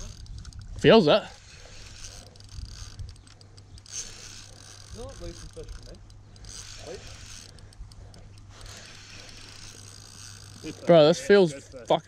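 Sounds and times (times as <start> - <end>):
fishing reel ratcheting whirr: 0.0 - 12.0.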